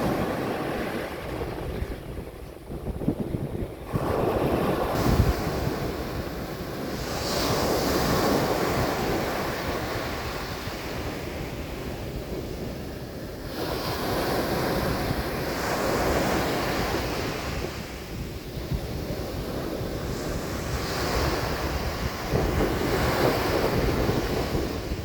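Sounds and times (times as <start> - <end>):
waves breaking on a beach: 0.0 - 25.0.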